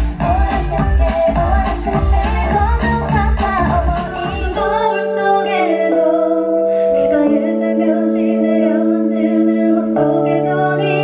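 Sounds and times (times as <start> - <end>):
held accompaniment chords: 0.0 - 11.0
woman singing into a microphone: 0.0 - 11.0.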